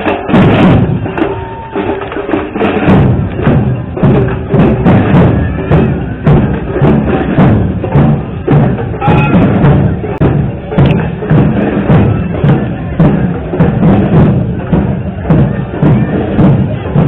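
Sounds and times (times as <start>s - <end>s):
music with loud drum beat: 0.0s - 17.0s.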